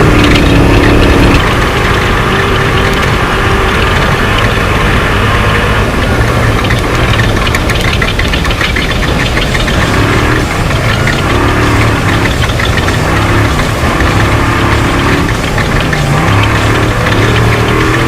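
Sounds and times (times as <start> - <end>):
truck engine running hard: 0.0 - 18.0
truck rattles and knocks: 0.0 - 18.0.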